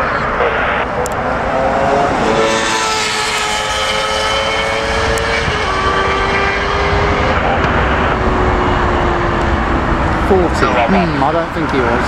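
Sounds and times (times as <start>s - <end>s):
jet engines whining: 0.0s - 12.0s
motorcycle passing: 0.0s - 12.0s.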